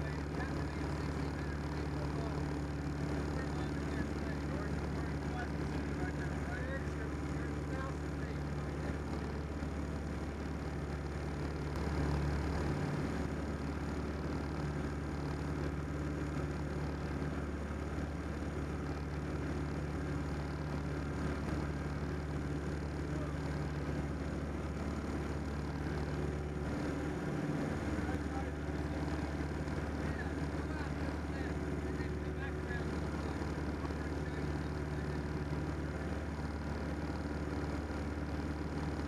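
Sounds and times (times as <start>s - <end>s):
plane engine and propeller droning: 0.0s - 39.0s.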